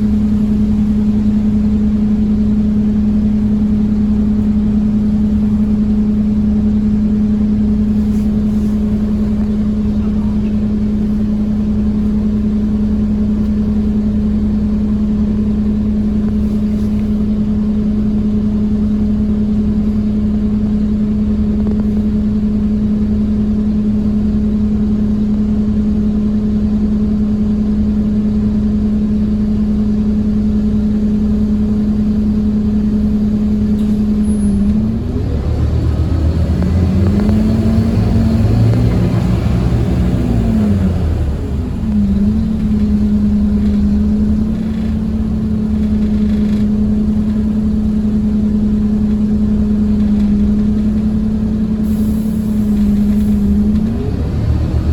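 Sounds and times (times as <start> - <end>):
bus droning tone: 0.0 - 54.9
engine and road rumble: 0.0 - 54.9.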